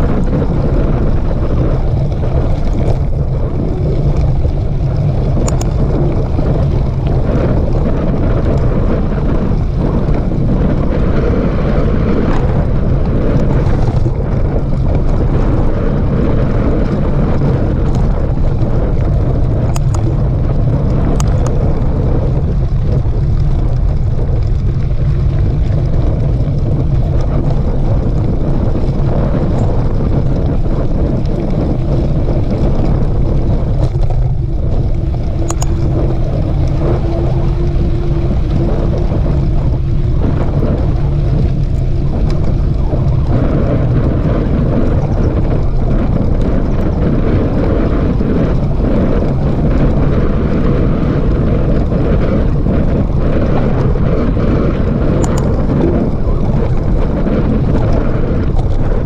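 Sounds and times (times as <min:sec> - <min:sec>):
bike and trail noise: 0:00.0 - 0:59.0
wind buffeting microphone: 0:00.0 - 0:59.0.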